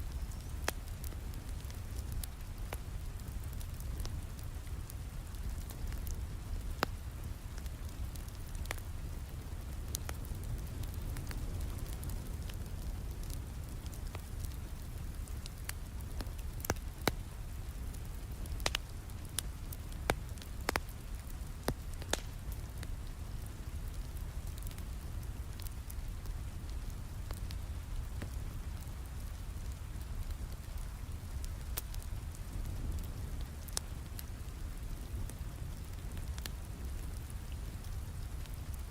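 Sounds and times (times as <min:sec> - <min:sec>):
crackling fireplace fire: 0:00.0 - 0:38.9
fire popping: 0:00.0 - 0:38.9
steady rain: 0:00.0 - 0:38.9.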